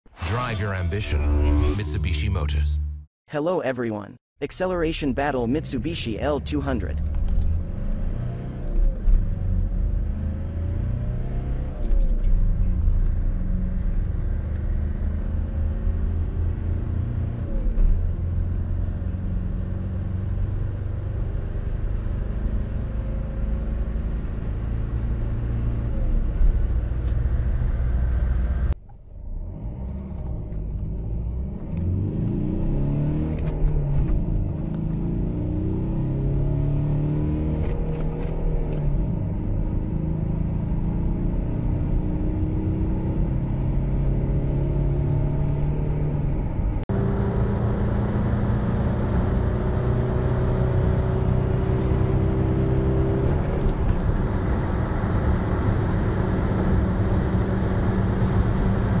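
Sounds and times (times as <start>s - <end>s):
diesel engine accelerating: 0.1s - 3.1s, 4.9s - 59.0s.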